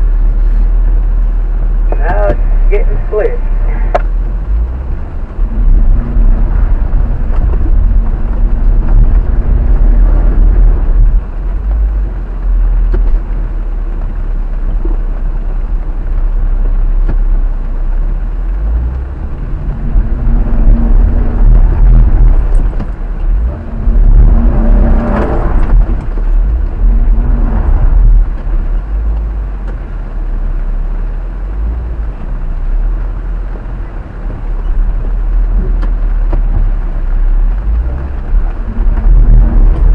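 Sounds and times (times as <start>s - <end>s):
vehicle rumbling on dirt trail: 0.0s - 39.9s.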